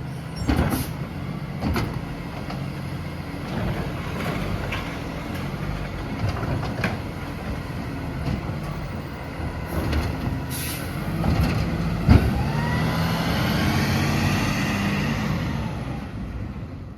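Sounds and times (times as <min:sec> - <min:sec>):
garbage truck engine: 0:00.0 - 0:16.9.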